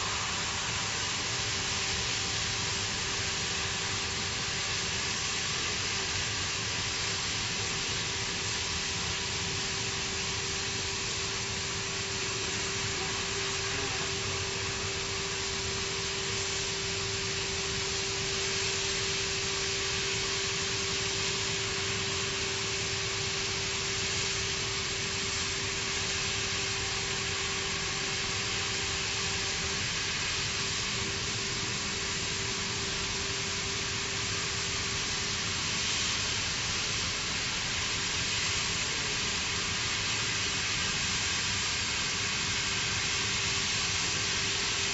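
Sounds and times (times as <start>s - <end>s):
constant machine hum: 0.0s - 44.9s
cutting torch hissing: 0.0s - 44.9s.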